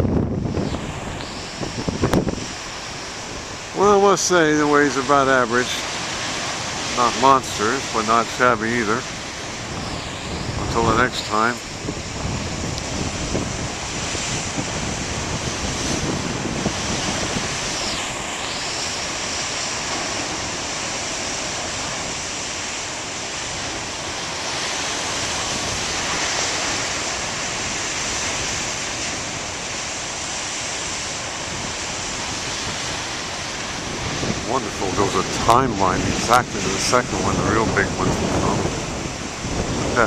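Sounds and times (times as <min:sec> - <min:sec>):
waves breaking: 0:00.0 - 0:40.0
wind buffeting microphone: 0:00.0 - 0:40.0.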